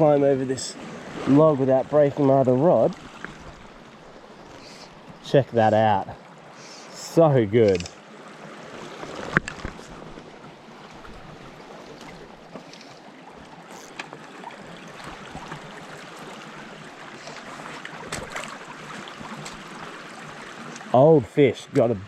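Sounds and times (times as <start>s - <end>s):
small stream running: 0.0s - 22.0s.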